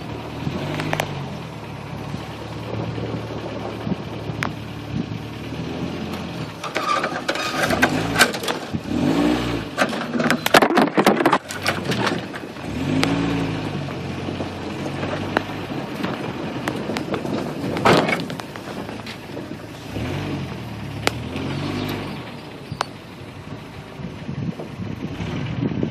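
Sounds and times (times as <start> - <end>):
truck engine revving: 0.0 - 25.9
truck knocks and scrapes: 2.1 - 23.1.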